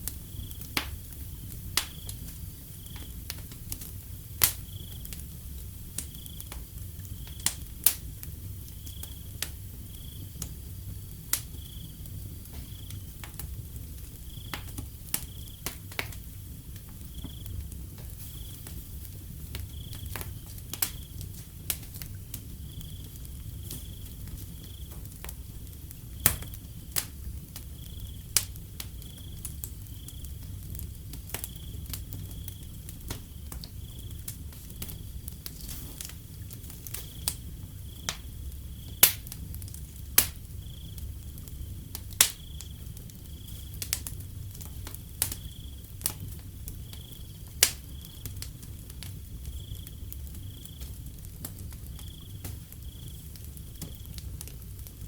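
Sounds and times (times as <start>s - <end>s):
crickets chirping: 0.0s - 55.0s
wood fire crackling: 0.0s - 55.0s.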